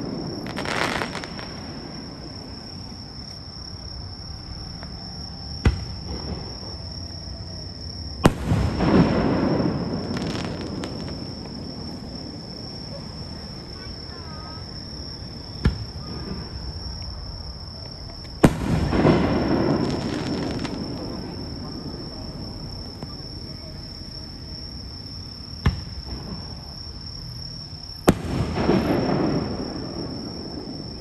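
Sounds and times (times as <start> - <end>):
fireworks bangs: 0.0 - 6.9, 8.0 - 24.5, 25.4 - 27.0, 27.9 - 31.0
fireworks crackling: 0.0 - 7.0, 7.7 - 27.0, 27.7 - 31.0.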